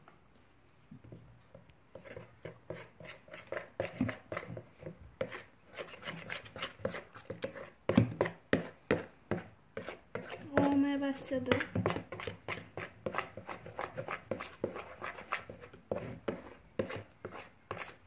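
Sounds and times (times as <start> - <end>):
spoon scraping plastic bowl: 1.9 - 18.0.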